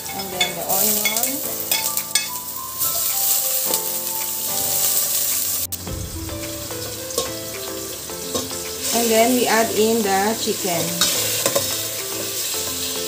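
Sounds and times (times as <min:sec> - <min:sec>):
background music of held notes: 0:00.0 - 0:13.0
onion sizzling in hot oil: 0:00.0 - 0:13.0.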